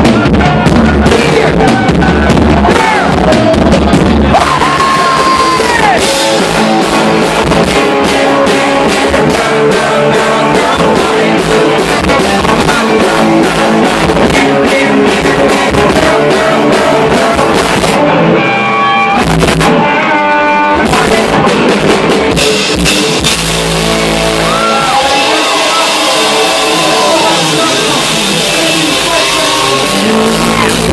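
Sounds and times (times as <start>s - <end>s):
person singing: 0.0s - 30.9s
rock band playing: 0.0s - 30.9s.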